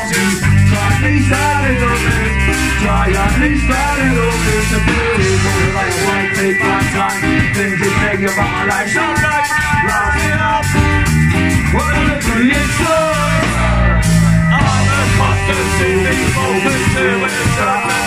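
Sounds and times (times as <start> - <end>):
drums with cymbal strikes: 0.0 - 18.0
person singing: 0.0 - 18.0
ska-punk band playing live: 0.0 - 18.0.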